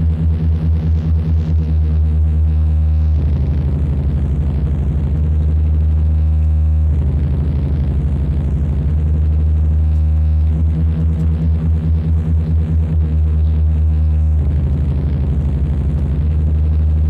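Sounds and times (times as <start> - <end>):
pulsing electronic drone: 0.0 - 17.0.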